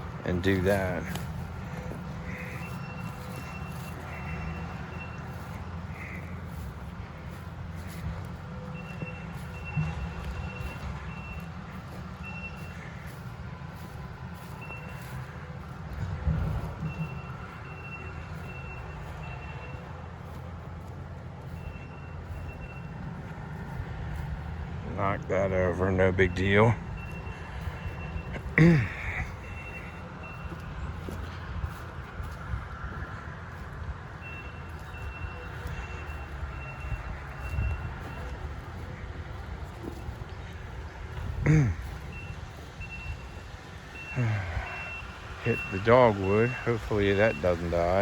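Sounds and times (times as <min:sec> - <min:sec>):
low engine rumble: 0:00.0 - 0:48.0
backup alarm beeping: 0:00.1 - 0:20.4, 0:21.4 - 0:23.8, 0:24.9 - 0:40.8, 0:41.9 - 0:48.0.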